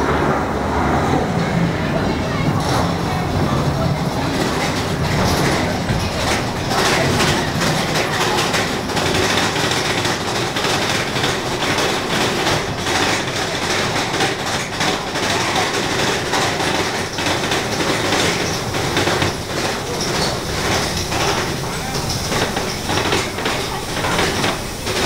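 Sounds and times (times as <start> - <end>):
roller coaster clatter on rails: 0.0 - 25.0.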